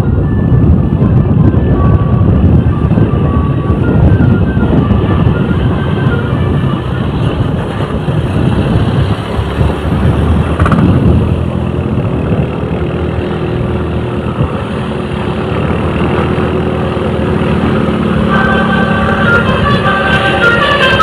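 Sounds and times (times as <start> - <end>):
heavy road noise: 0.0 - 21.0
large vehicle engine passing: 2.0 - 21.0.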